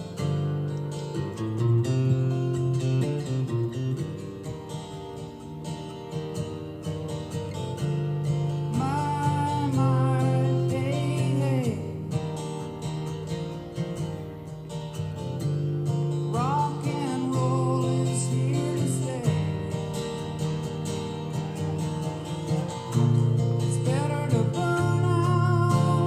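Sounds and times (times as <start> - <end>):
strummed acoustic guitar music: 0.0 - 26.0.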